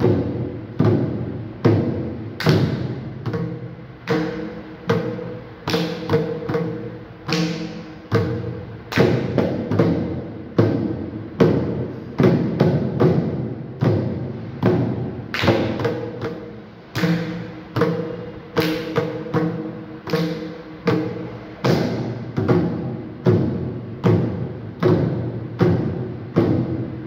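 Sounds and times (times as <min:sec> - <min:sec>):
hand drums played rhythmically: 0:00.0 - 0:27.0.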